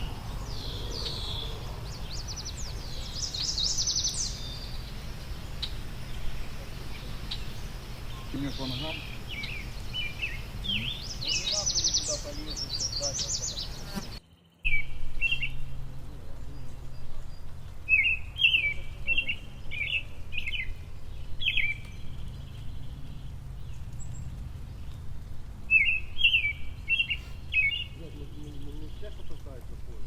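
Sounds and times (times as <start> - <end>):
low background rumble: 0.0 - 30.0
songbird chirping: 0.0 - 30.0.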